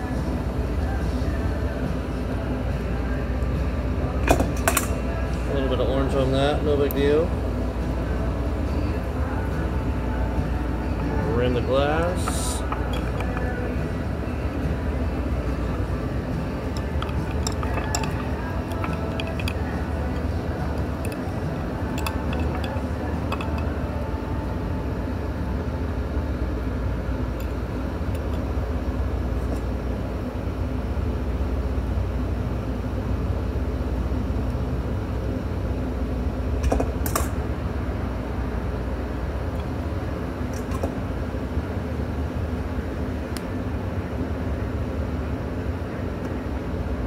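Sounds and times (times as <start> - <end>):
low background rumble: 0.0 - 47.0.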